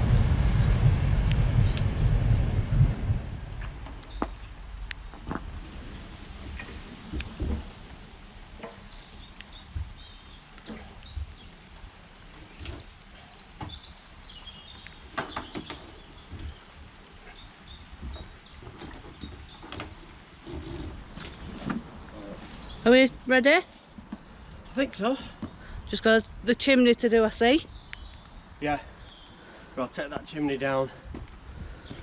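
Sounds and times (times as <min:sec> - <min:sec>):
low outdoor rumble: 0:00.0 - 0:29.0
small birds singing: 0:00.2 - 0:32.0.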